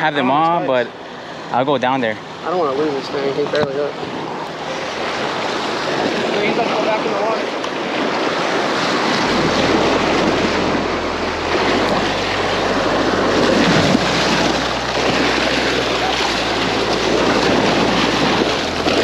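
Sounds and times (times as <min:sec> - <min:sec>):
waves splashing over rocks: 0:00.0 - 0:19.0.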